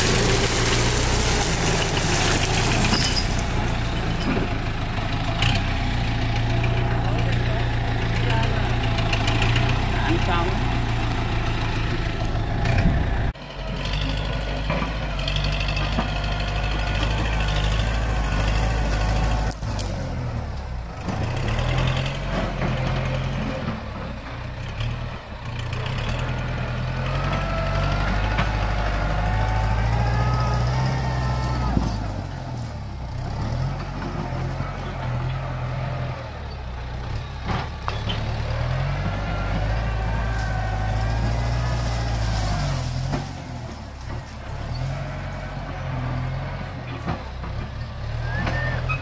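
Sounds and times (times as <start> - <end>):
tractor diesel engine: 0.0 - 49.0.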